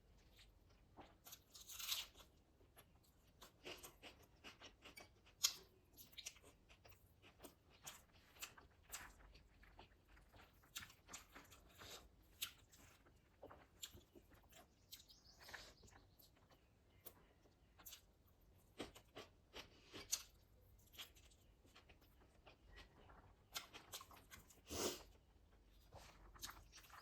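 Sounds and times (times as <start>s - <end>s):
person chewing and crunching food: 0.0s - 27.0s.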